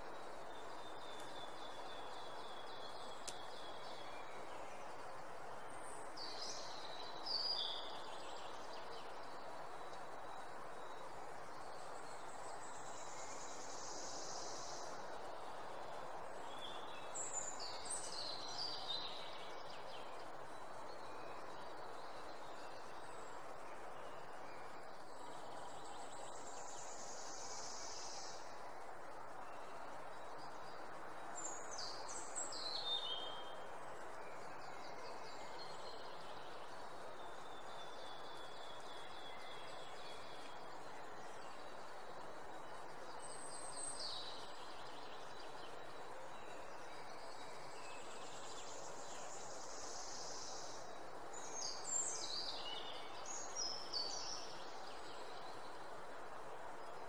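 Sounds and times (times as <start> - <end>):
outdoor ambience hiss: 0.0 - 57.0.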